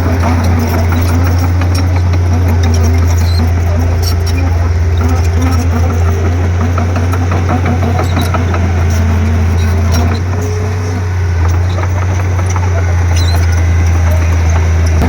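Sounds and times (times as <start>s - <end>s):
bulldozer diesel engine running: 0.0s - 15.0s
wavering squeaks: 0.0s - 15.0s.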